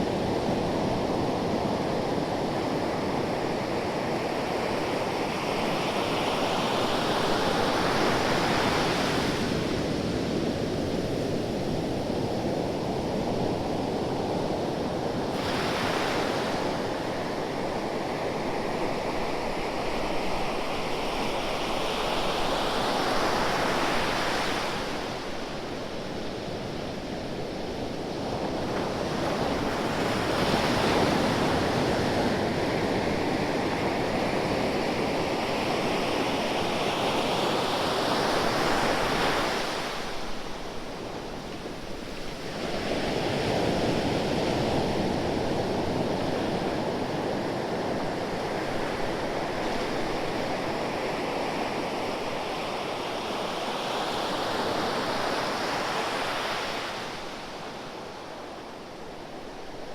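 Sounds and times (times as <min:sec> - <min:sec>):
ocean waves washing onto shore: 0:00.0 - 0:59.9.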